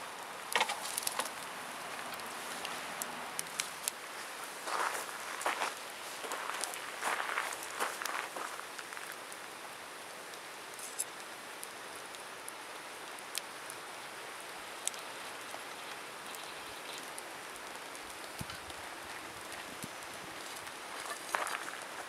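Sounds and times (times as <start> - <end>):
campfire hiss: 0.0 - 22.0
campfire crackling pops: 0.4 - 22.0.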